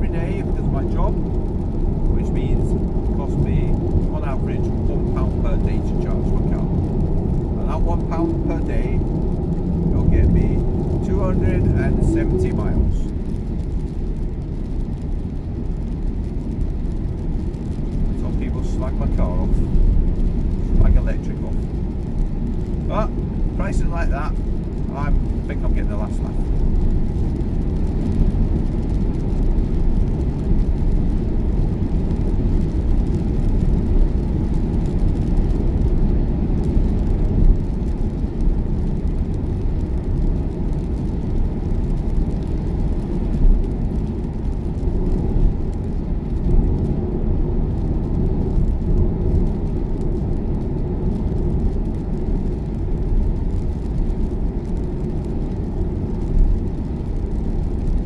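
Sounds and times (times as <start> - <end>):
road and tyre noise in car: 0.0 - 58.0.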